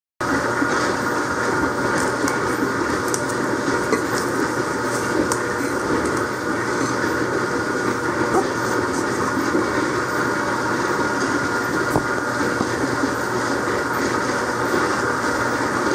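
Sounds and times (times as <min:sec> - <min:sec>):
machine running with low hum: 0:00.2 - 0:15.9.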